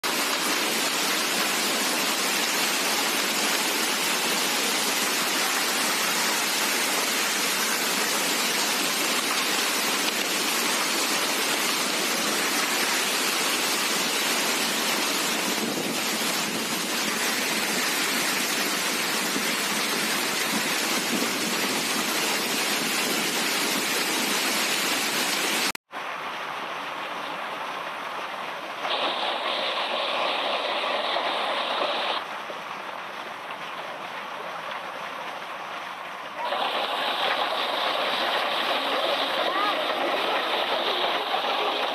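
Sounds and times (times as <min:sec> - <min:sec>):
hail pelting ground and foliage: 0:00.0 - 0:41.9.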